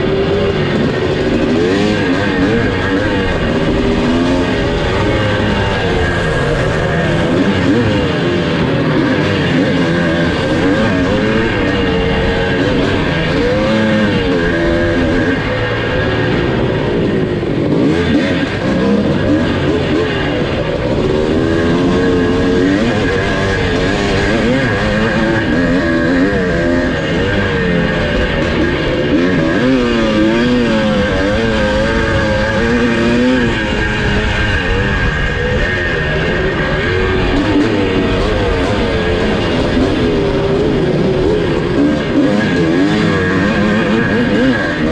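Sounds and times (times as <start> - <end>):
motocross engine revving: 0.0 - 44.9
track noise: 0.0 - 44.9
wind: 0.0 - 44.9.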